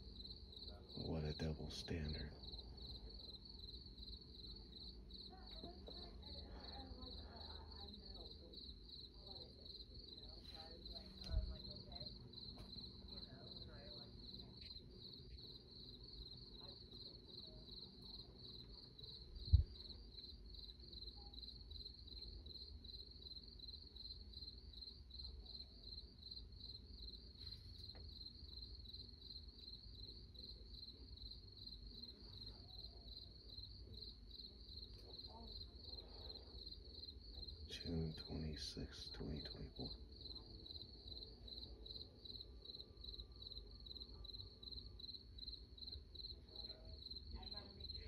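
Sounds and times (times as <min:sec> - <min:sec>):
crickets chirping: 0:00.0 - 0:48.0.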